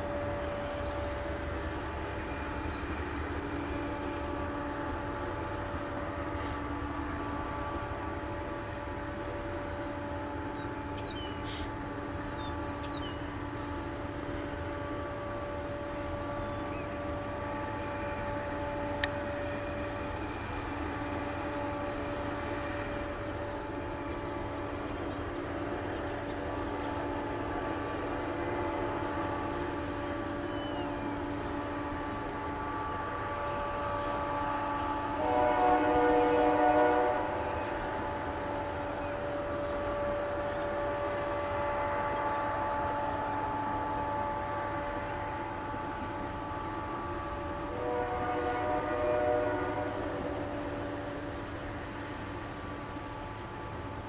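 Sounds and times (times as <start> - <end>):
steady multi-tone hum: 0.0 - 54.0
train wheels rumbling on rail: 0.0 - 54.0.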